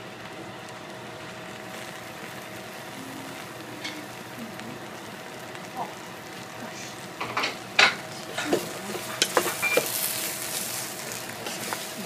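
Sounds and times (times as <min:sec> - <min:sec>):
light sizzle: 0:00.0 - 0:12.0.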